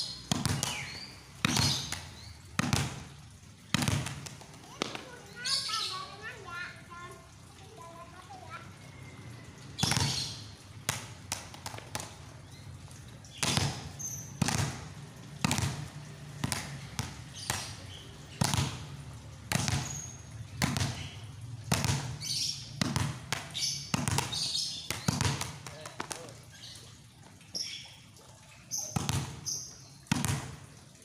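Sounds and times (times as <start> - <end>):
balls bouncing on concrete: 0.0 - 27.9, 28.6 - 30.9.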